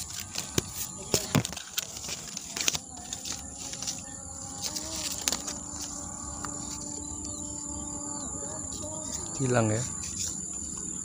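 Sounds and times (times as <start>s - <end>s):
high-pitched insect drone: 0.0s - 11.0s
leaves and twigs rustling: 0.0s - 11.0s.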